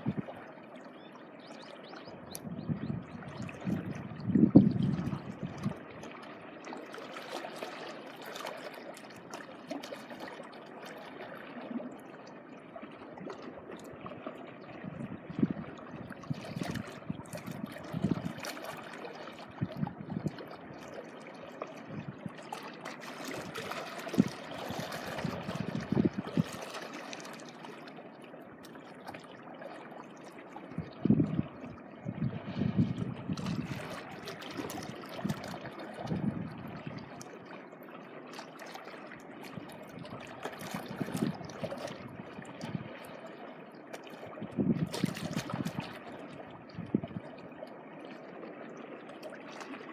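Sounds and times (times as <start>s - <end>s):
small waves washing over shore: 4.8s - 12.0s, 12.8s - 49.9s.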